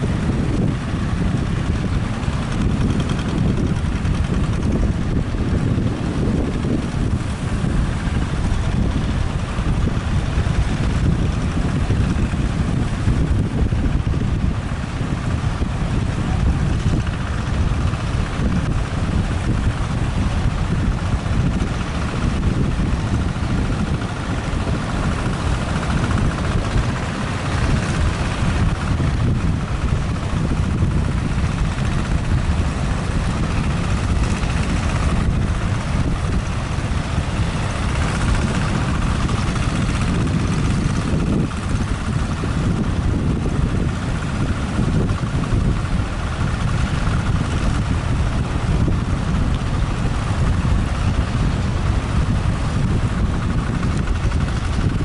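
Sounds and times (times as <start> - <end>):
heavy surf breaking: 0.0 - 55.0
wind buffeting microphone: 0.0 - 55.0.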